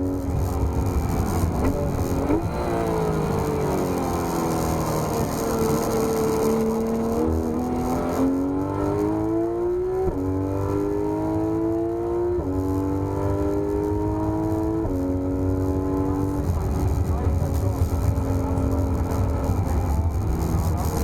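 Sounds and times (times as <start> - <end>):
sports car engine accelerating: 0.0 - 21.0.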